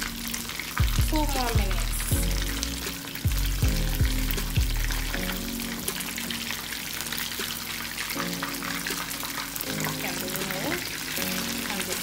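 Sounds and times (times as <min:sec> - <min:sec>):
background music: 0:00.0 - 0:12.0
fish deep-frying in oil: 0:00.0 - 0:12.0.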